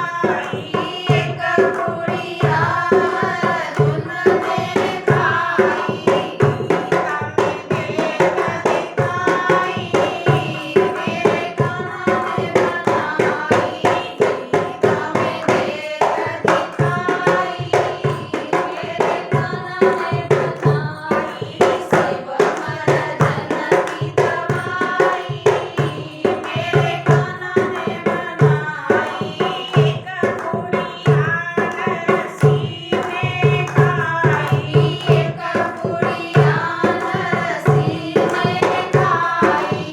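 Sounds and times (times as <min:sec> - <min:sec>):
devotional song singing: 0:00.0 - 0:39.9
fast percussion strokes: 0:00.0 - 0:39.9.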